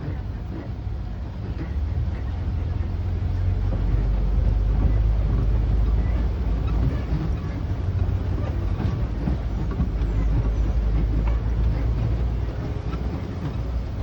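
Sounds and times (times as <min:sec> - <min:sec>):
engine and road rumble: 0:00.0 - 0:14.0
light rattles and clicks: 0:00.0 - 0:14.0.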